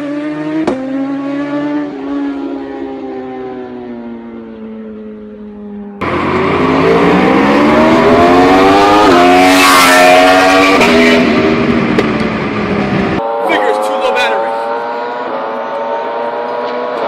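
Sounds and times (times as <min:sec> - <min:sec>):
motorcycle accelerating past: 0:00.0 - 0:17.0
motorcycle engine winding down: 0:00.3 - 0:17.0.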